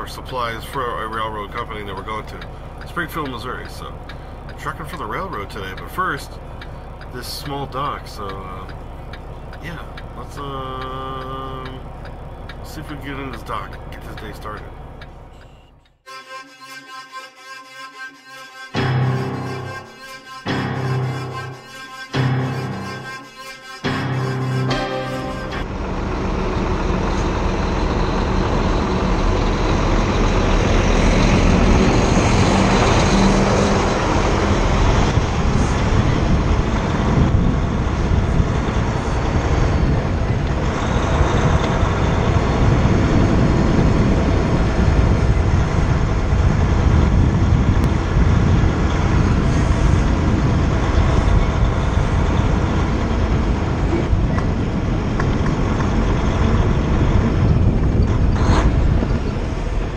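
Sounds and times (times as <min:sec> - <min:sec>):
diesel truck engine rumbling: 0:00.0 - 0:16.1, 0:18.7 - 0:59.9.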